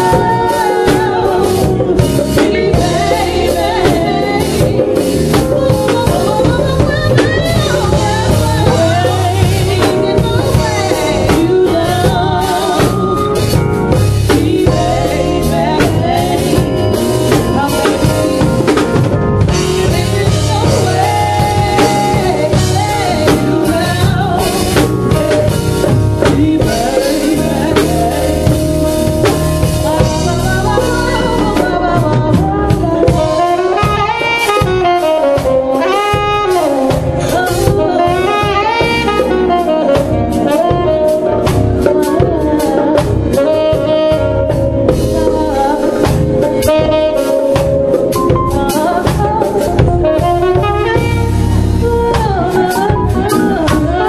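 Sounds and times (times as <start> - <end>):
drums with cymbals: 0.0 - 54.0
saxophone sliding melody: 0.0 - 54.0
soul band playing: 0.0 - 54.0.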